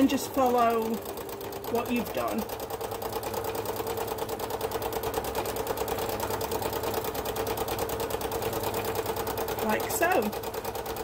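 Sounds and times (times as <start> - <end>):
sewing machine running: 0.0 - 11.0.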